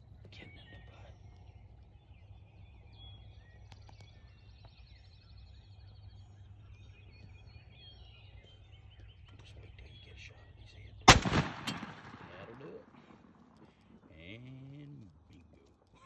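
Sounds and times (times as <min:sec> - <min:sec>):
songbirds chirping: 0:00.0 - 0:16.0
steady low rumble: 0:00.0 - 0:16.0.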